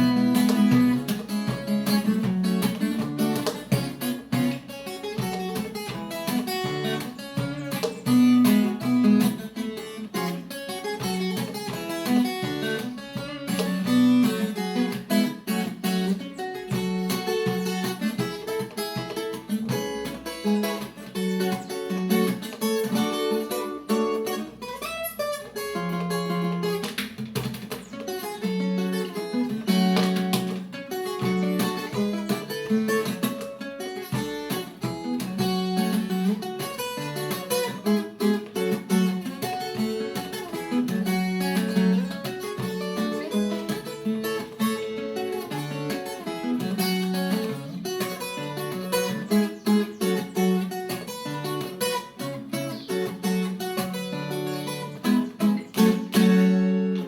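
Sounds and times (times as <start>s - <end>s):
ten-string guitar playing: 0.0s - 57.0s.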